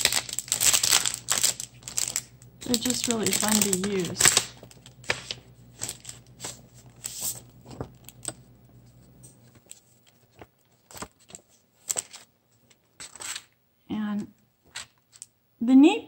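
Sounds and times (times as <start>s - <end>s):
plastic and paper rustling: 0.0s - 13.6s
faint low hum: 0.0s - 16.0s.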